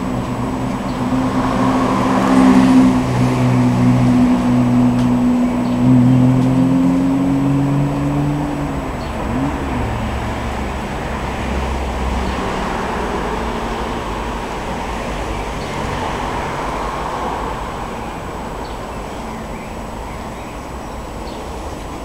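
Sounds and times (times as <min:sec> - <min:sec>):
road traffic noise: 0:00.0 - 0:22.0
vehicle engine humming: 0:00.0 - 0:22.0.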